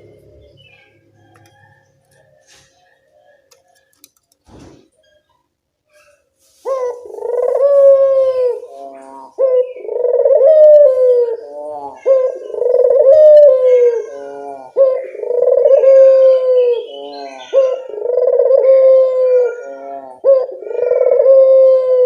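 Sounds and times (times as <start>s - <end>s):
dove cooing: 0.0s - 3.9s, 6.6s - 22.0s.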